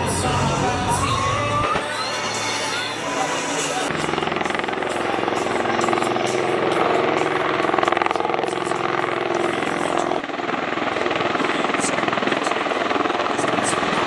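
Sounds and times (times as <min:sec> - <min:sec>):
aircraft engine droning overhead: 0:00.0 - 0:14.0.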